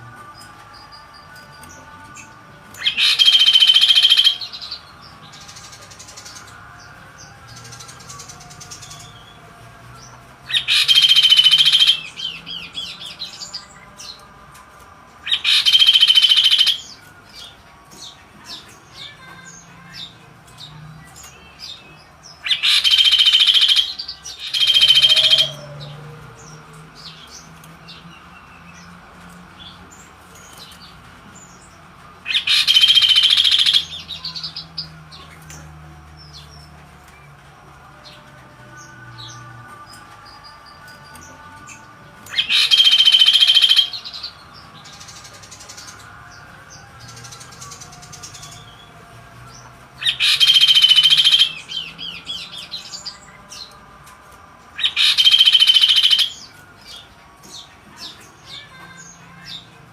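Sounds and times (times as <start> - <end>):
bird singing in harsh bursts: 0.7 - 14.2, 15.2 - 53.8, 54.7 - 59.9.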